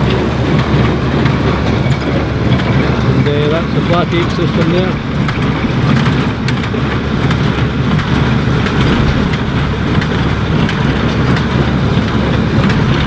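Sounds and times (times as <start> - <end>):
baler clicking: 0.0 - 13.0
tractor engine running: 0.0 - 13.0.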